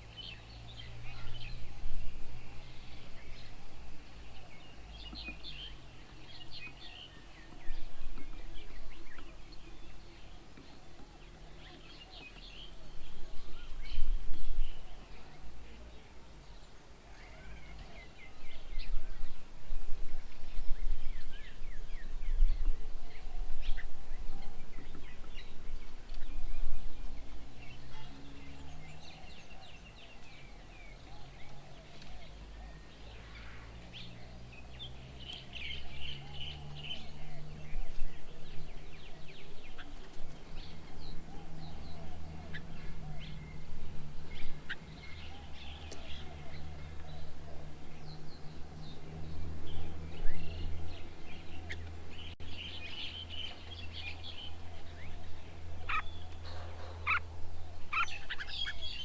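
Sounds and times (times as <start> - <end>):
birds calling and chirping: 0.0 - 59.0.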